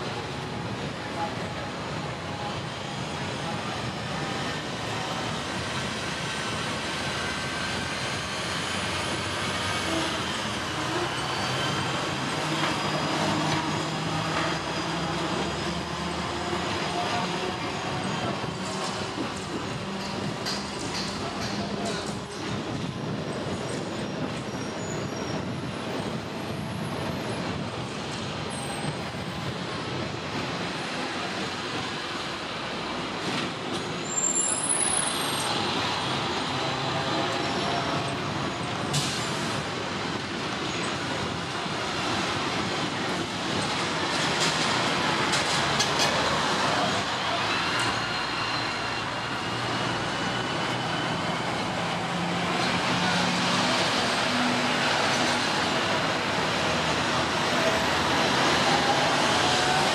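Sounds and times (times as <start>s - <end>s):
road traffic: 0.0s - 59.9s
tram wheels rumbling on rails: 0.0s - 59.9s.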